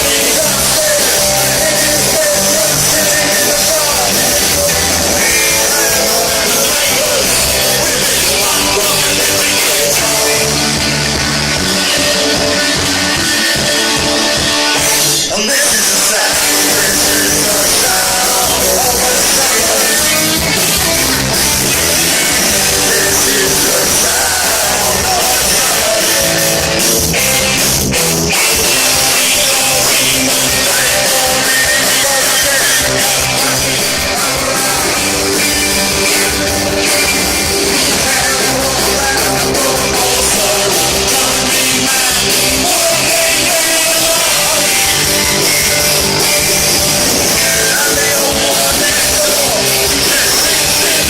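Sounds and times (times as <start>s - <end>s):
bass: 0.0s - 51.0s
distorted electric guitars: 0.0s - 51.0s
drums: 0.0s - 51.0s
punk rock band playing live: 0.0s - 51.0s.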